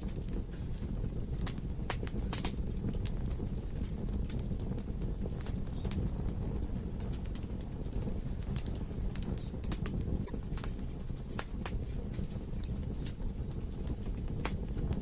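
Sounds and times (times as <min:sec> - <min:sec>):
fire crackling and popping: 0:00.0 - 0:15.0
logs burning in fireplace: 0:00.0 - 0:15.0.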